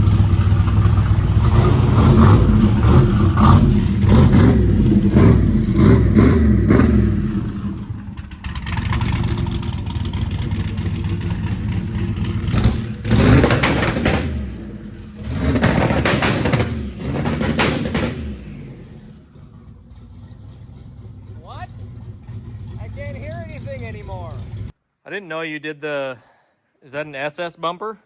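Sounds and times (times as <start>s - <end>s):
engine revving: 0.0s - 24.7s.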